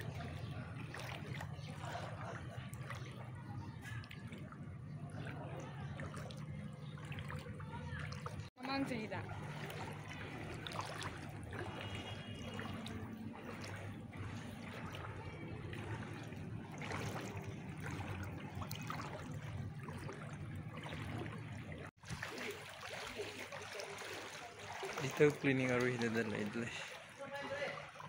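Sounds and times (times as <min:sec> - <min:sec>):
wading through sloshing water: 0:00.0 - 0:28.0.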